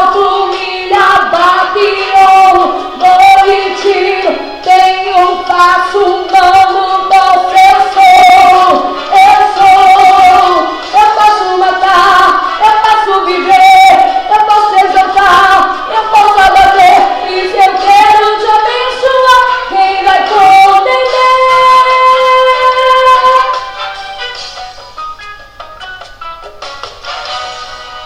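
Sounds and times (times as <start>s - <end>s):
woman singing gospel: 0.0s - 23.6s
backing track: 0.0s - 28.0s.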